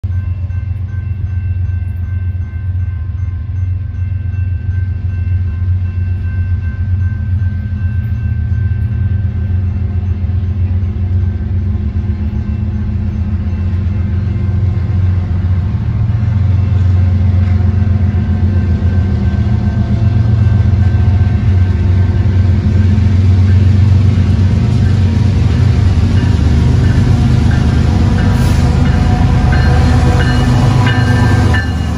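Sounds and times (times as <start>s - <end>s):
diesel locomotive engines rumbling: 0.0s - 31.9s.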